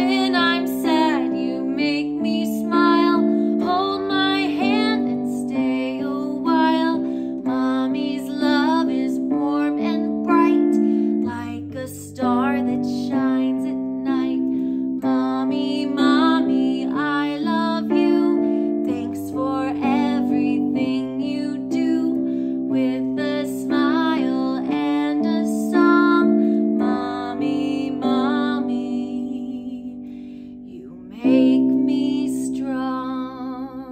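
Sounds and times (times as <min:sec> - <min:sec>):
gentle children's song on keyboard: 0:00.0 - 0:33.9.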